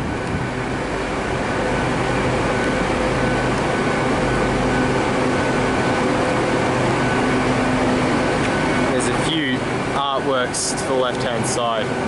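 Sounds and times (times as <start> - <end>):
idling diesel train engines humming: 0.0 - 12.0.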